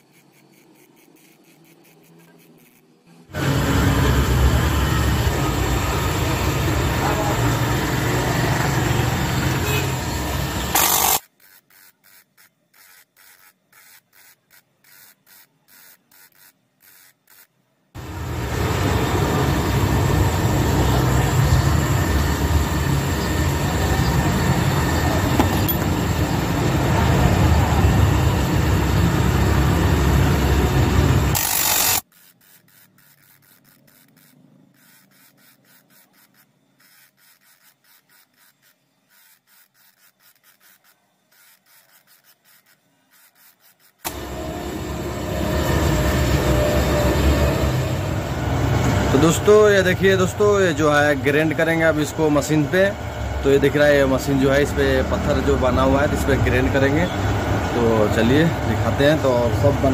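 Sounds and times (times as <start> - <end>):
faint rapid pulsing: 0.0 - 59.9
grinding wheel on steel: 0.0 - 59.9.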